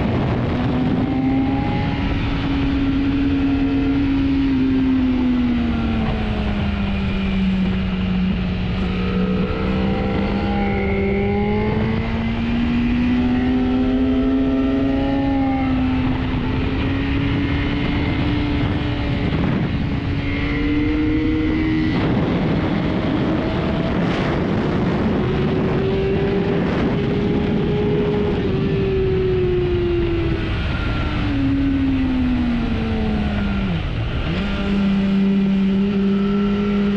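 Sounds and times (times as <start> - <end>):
motorcycle engine at high revs: 0.0 - 36.9
wind rush: 0.0 - 36.9.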